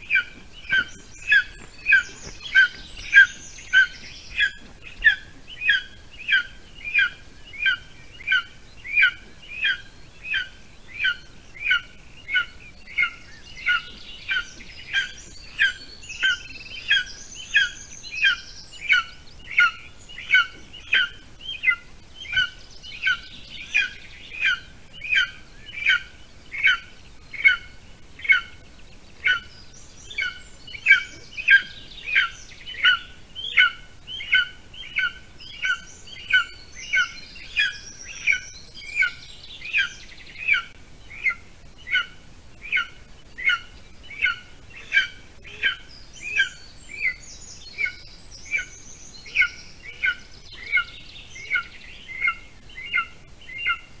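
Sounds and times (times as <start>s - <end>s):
eagle chick begging calls: 0.0s - 28.6s, 30.1s - 47.2s
songbird chirps: 0.0s - 54.0s.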